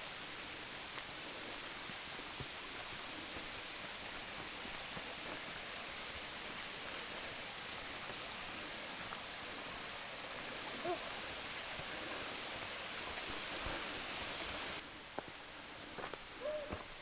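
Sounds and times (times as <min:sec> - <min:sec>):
flowing creek water: 0:00.0 - 0:17.0.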